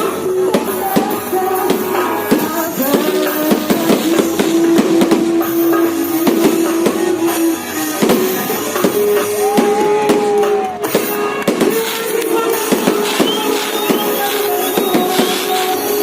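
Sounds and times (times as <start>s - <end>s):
fireworks bangs and crackles: 0.0s - 16.0s
loud music on sound system: 0.0s - 16.0s.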